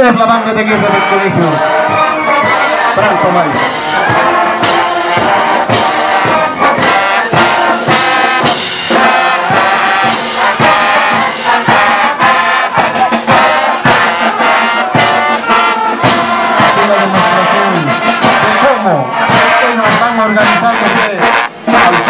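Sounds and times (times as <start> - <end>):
marching band playing: 0.0 - 22.0
drum beat: 0.6 - 22.0.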